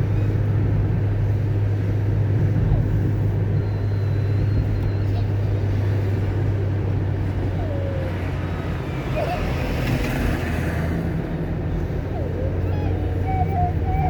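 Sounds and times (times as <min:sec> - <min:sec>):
car driving on wet road: 0:00.0 - 0:13.9.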